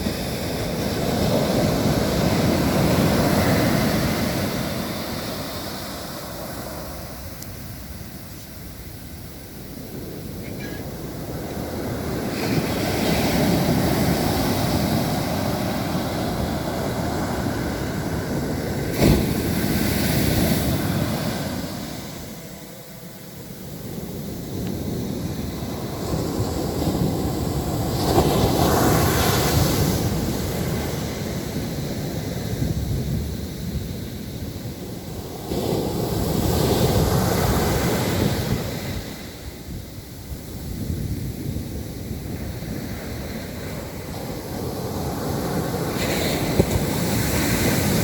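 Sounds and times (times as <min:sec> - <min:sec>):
waves breaking on a beach: 0:00.0 - 0:48.0.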